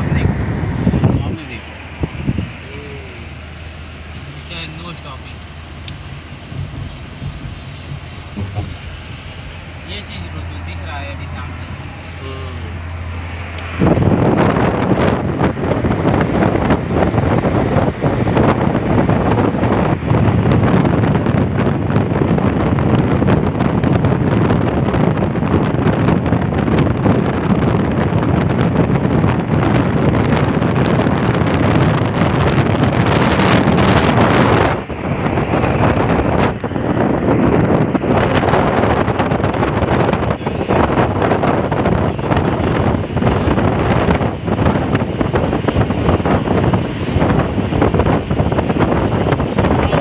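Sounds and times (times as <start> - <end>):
wind buffeting microphone: 0.0 - 4.8, 5.4 - 50.0.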